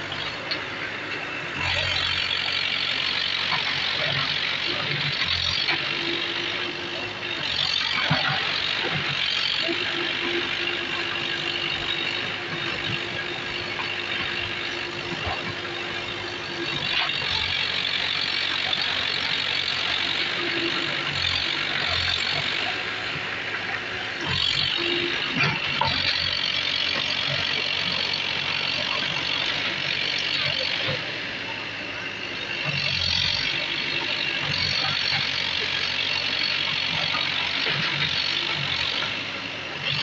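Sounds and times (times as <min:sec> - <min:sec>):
diesel engines running: 0:00.0 - 0:40.0.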